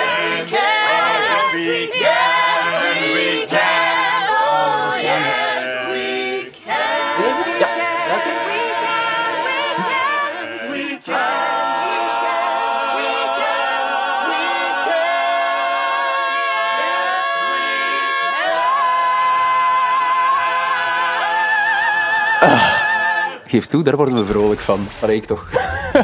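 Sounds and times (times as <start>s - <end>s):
choir singing a cappella: 0.0s - 23.5s.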